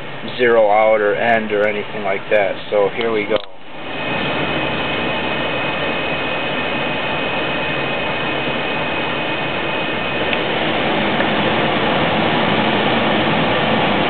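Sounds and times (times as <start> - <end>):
blower fan air rushing: 0.0 - 14.0
thin high whine: 0.0 - 14.0.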